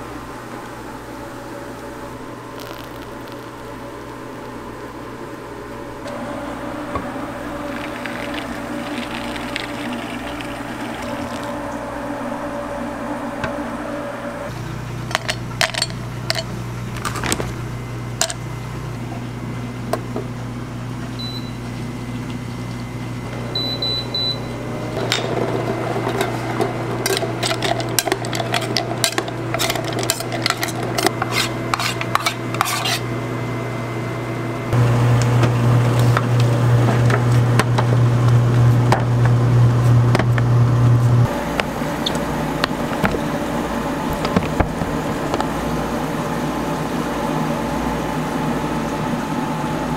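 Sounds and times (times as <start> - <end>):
kitchen machine hum: 0.0 - 49.9.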